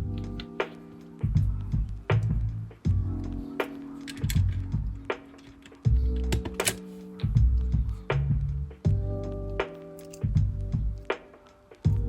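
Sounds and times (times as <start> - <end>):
beat music with bass and drums: 0.0 - 12.0.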